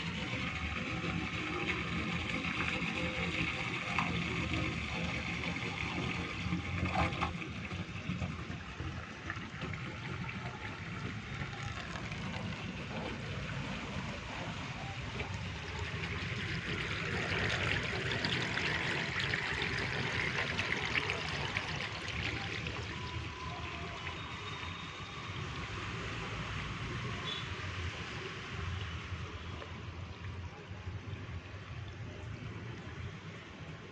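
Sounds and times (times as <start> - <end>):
water trickling into a drain: 0.0 - 33.9.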